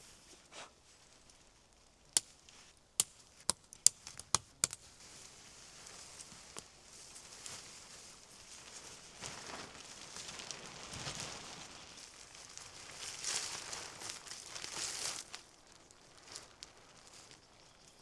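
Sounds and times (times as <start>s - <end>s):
rustling and crinkling handling: 0.0s - 18.0s.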